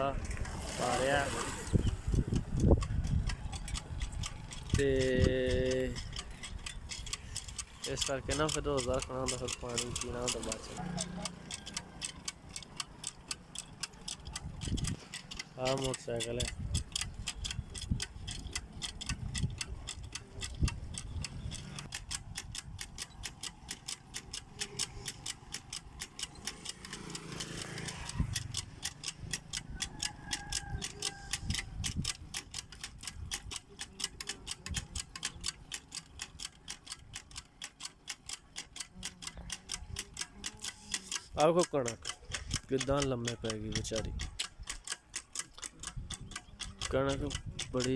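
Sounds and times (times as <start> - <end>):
hand pump clicking and knocking: 1.8 - 47.9.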